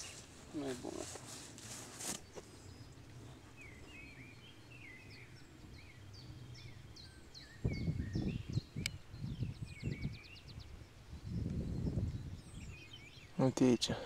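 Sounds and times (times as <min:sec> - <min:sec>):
steady low hum: 0:00.0 - 0:12.8
birds chirping: 0:00.0 - 0:14.0.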